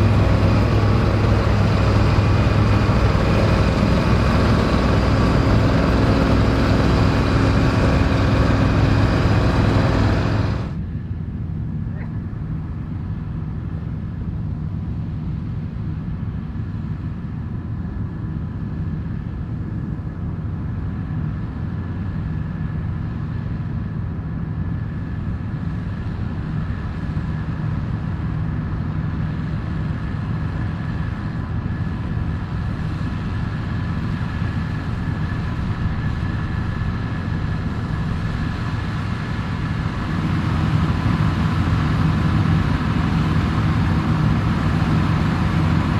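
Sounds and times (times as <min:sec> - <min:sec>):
combine harvester engine running: 0:00.0 - 0:13.9, 0:16.2 - 0:45.9.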